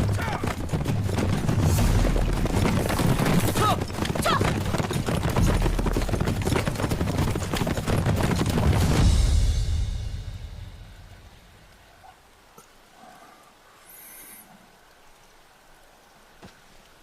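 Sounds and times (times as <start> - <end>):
horses galloping hooves: 0.0 - 13.6.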